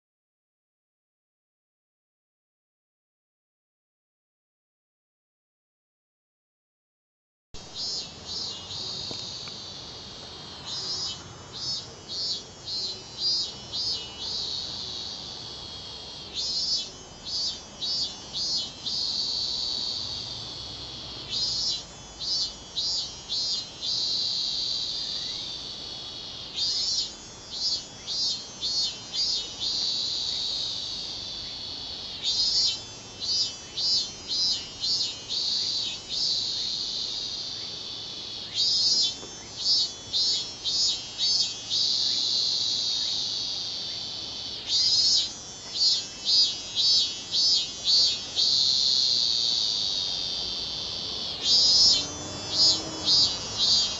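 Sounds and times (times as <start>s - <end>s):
cicada singing: 7.6s - 53.9s.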